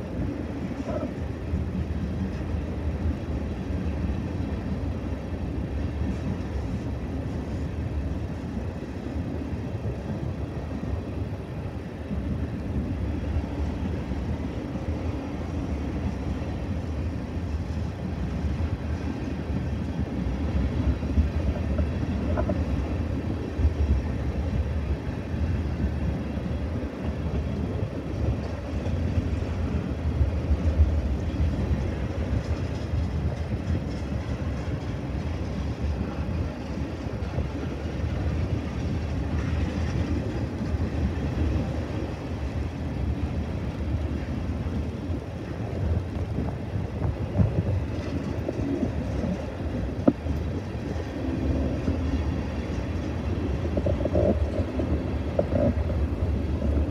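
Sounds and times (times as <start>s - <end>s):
freight train rumbling: 0.0s - 56.9s.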